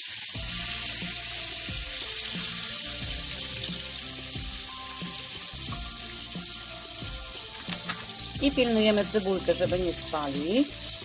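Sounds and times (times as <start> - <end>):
fish frying in hot oil: 0.0 - 11.0
soft background music: 0.2 - 11.0.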